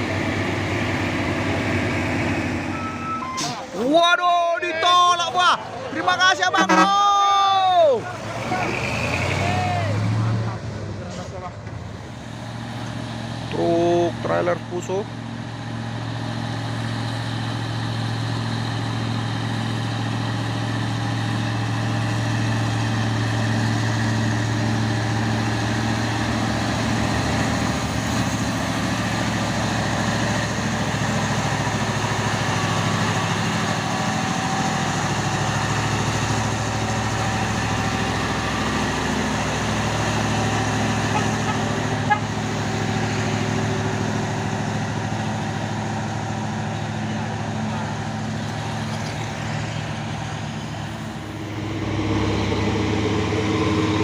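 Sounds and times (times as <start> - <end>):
truck diesel engine drone: 0.0 - 54.0.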